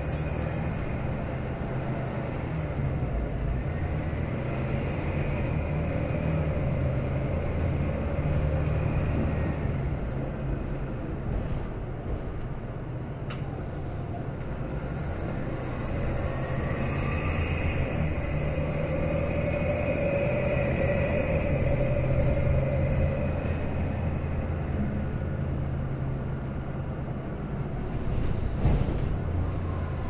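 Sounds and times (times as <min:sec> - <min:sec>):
bus engine hum: 0:00.0 - 0:30.0.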